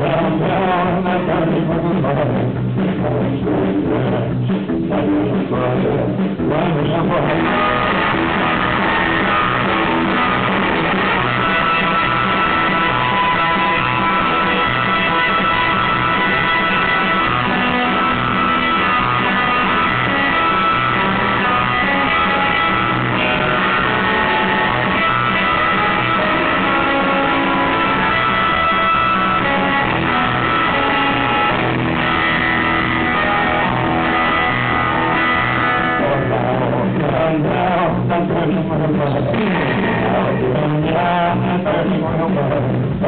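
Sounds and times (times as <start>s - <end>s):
electric guitar: 0.0s - 43.0s
surf rock band playing: 0.0s - 43.0s.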